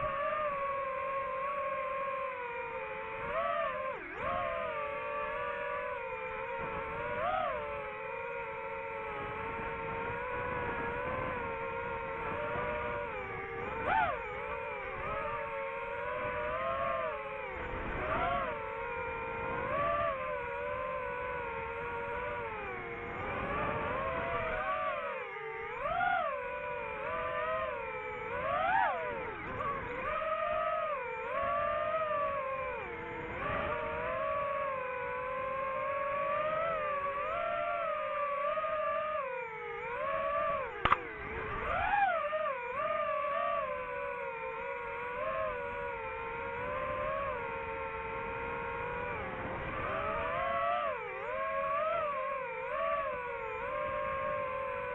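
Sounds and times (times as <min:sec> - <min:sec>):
drone propellers whining: 0:00.0 - 0:54.9.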